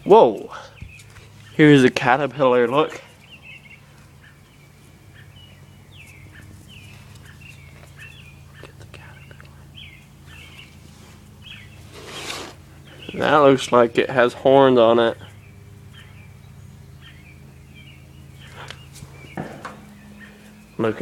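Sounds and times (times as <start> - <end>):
steady low hum: 0.0 - 21.0
small bird chirping: 0.2 - 21.0.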